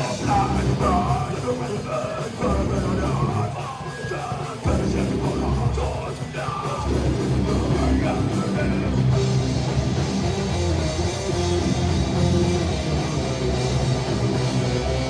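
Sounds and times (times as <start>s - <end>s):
heavy metal band playing: 0.0s - 15.0s.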